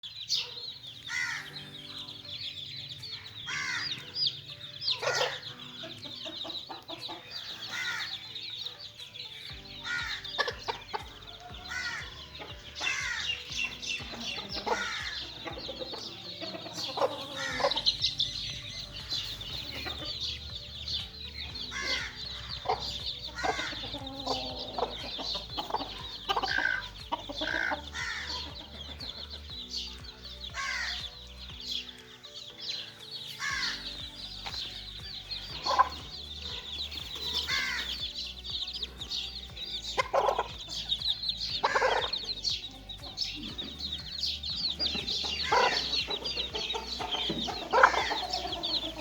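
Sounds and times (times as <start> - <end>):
chicken clucking: 0.0 - 49.0
chicks peeping: 0.0 - 49.0.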